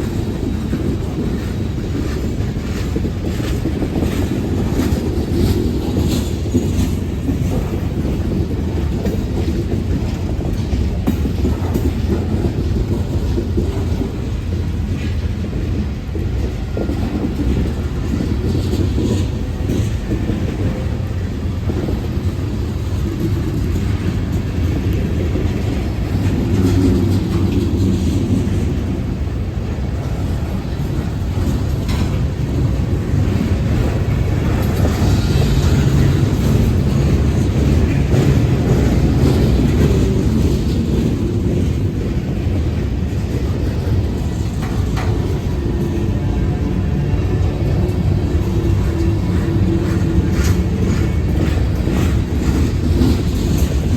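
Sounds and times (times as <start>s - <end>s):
freight train rumbling on rails: 0.0s - 53.9s.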